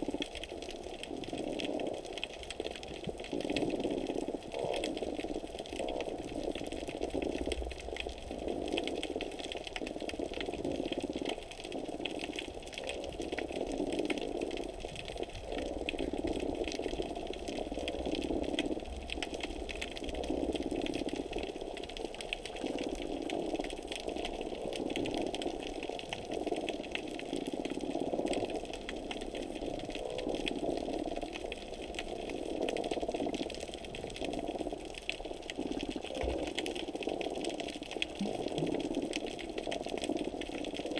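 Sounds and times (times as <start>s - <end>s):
fine underwater crackling: 0.0s - 40.9s
muffled water rushing: 0.0s - 40.9s.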